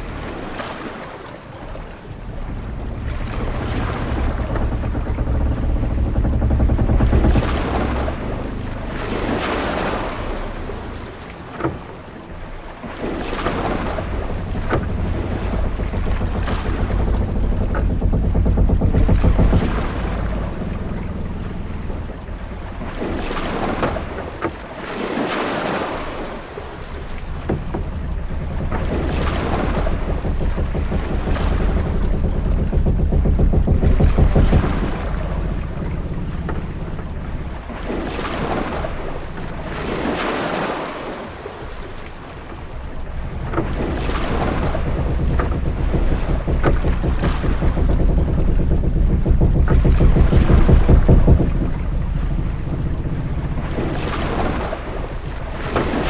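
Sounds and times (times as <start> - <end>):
low rumble of wind: 0.0 - 56.0
waves washing: 0.0 - 56.0.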